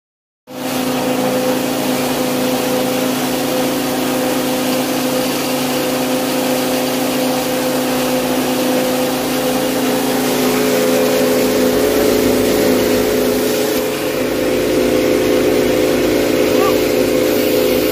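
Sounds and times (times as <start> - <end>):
rice mill motor humming: 0.5 - 17.9
rice rushing from chute: 0.5 - 17.9.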